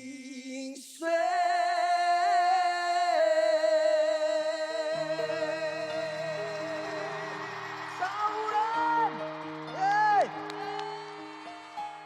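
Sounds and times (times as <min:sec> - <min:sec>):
person singing with vibrato: 0:00.0 - 0:12.0.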